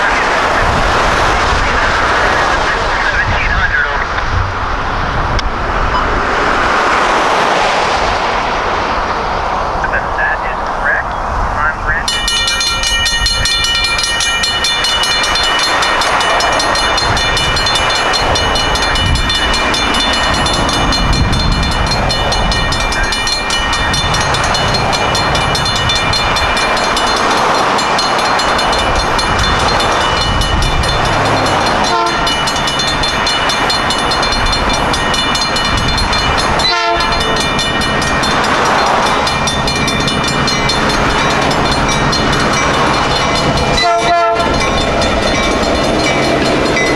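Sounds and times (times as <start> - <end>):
crossing bells ringing: 0.0 - 46.9
train rumbling past: 0.0 - 46.9.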